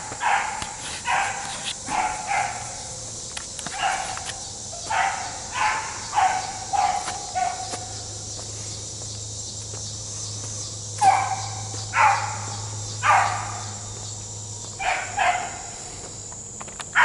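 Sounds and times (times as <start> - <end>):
dogs baying: 0.0 - 9.6, 10.2 - 16.0
insects chirring: 0.0 - 17.0.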